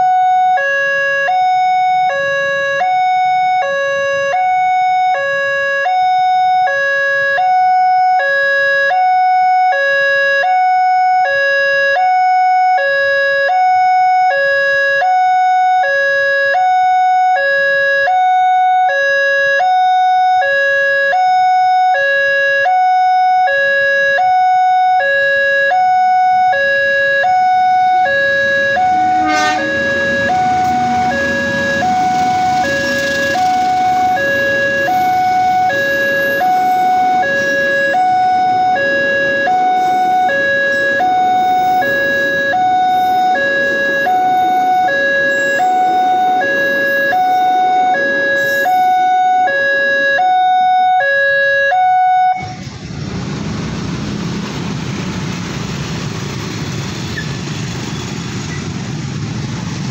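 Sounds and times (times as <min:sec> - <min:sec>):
level crossing two-tone alarm: 0:00.0 - 0:52.6.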